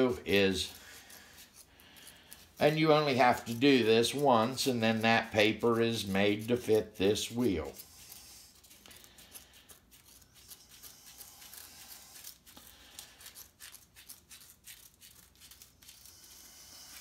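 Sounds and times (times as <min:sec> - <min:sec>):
scissors snipping paper: 0:00.0 - 0:17.0.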